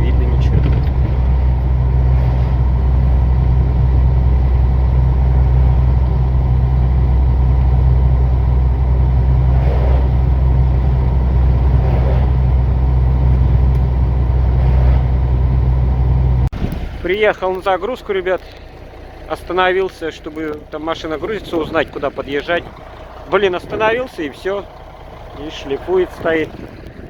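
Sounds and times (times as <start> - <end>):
road noise: 0.0 - 27.0
truck diesel engine droning: 0.0 - 27.0.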